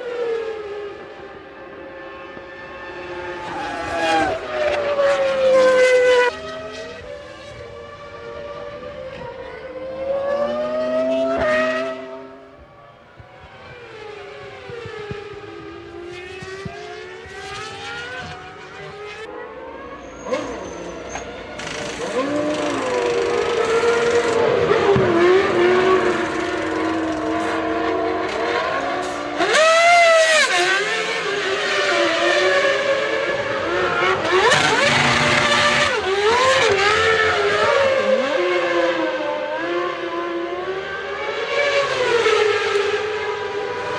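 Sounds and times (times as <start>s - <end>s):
racing cars at high revs: 0.0s - 43.9s.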